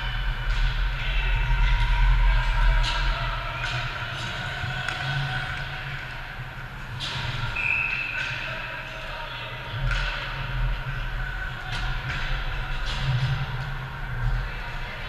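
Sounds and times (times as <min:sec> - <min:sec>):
hockey sticks and puck clacking: 0:00.1 - 0:06.2, 0:06.9 - 0:15.0.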